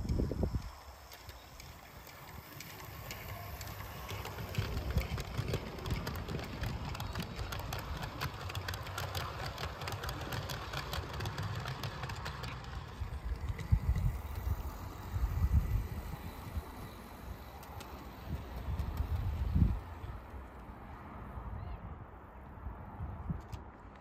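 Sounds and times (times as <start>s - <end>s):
model train rumbling: 0.0s - 20.6s
wheels clicking on rails: 0.0s - 21.0s.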